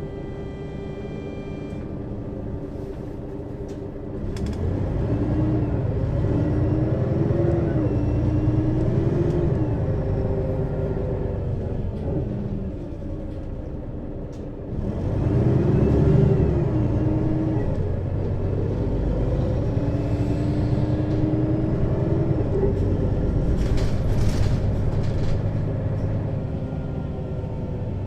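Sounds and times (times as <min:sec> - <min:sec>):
bus engine pulling away: 0:00.0 - 0:28.0.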